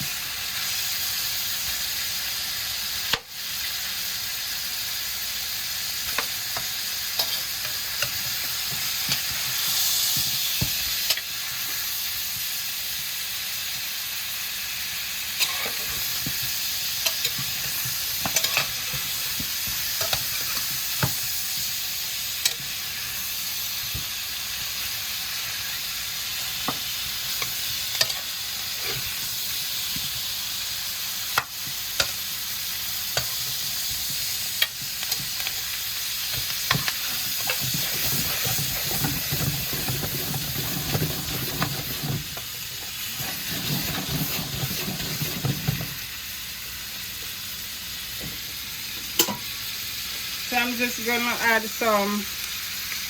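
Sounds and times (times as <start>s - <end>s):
meat sizzling in butter: 0.0s - 53.0s.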